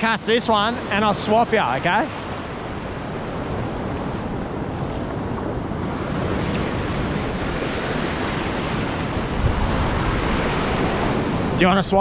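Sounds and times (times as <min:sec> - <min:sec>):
surf washing through shallows: 0:00.0 - 0:12.0
wind buffeting microphone: 0:00.7 - 0:12.0.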